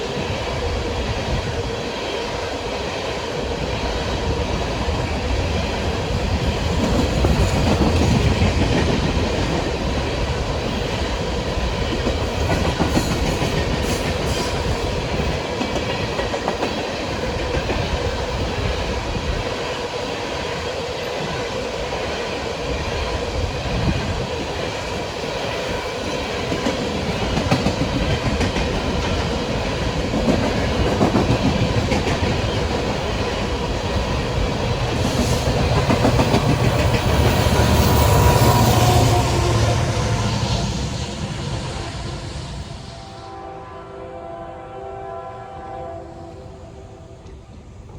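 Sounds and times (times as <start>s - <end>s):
freight train wheels rumbling on rail: 0.0s - 43.6s.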